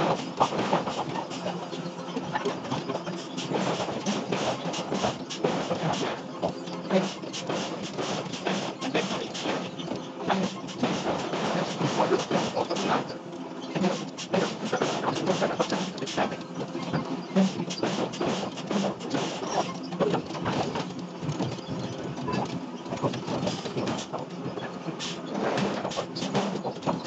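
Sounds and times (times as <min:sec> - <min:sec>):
machinery humming: 0:00.0 - 0:27.0.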